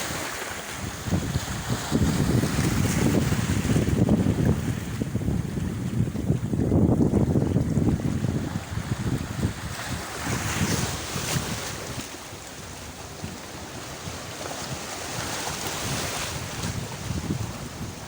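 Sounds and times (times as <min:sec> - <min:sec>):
sea waves washing ashore: 0:00.0 - 0:18.0
wind rumbling on microphone: 0:00.0 - 0:18.0.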